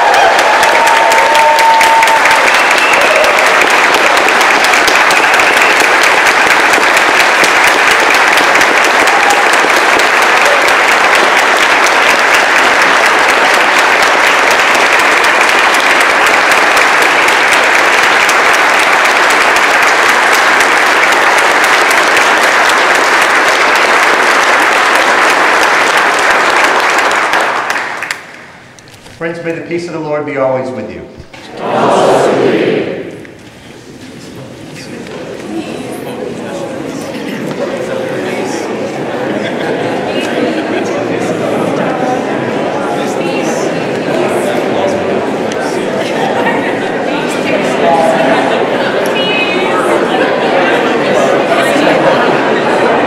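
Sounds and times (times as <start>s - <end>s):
congregation applauding: 0.0s - 30.3s, 36.4s - 53.0s.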